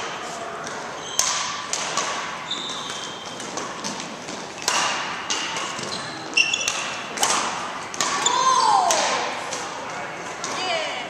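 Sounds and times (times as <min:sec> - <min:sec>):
court shoes squeaking: 0:00.0 - 0:11.0
racquet hitting shuttlecock: 0:00.6 - 0:10.6.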